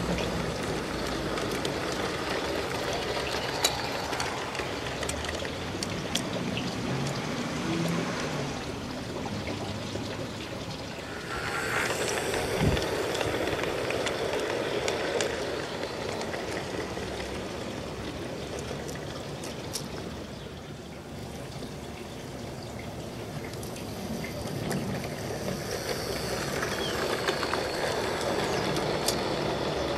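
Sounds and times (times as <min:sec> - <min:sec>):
wheels clicking over rails: 0:00.0 - 0:20.3, 0:22.9 - 0:29.9
model train rolling on track: 0:00.0 - 0:20.4, 0:21.2 - 0:29.9.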